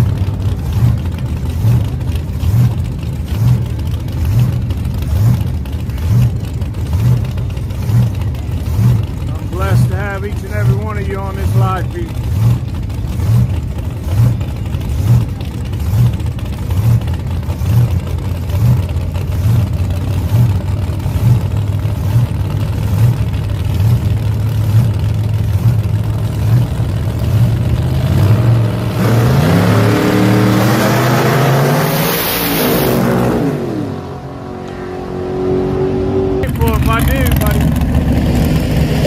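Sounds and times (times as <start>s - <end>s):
drag car engine idling and launching: 0.0s - 34.8s, 36.3s - 39.0s.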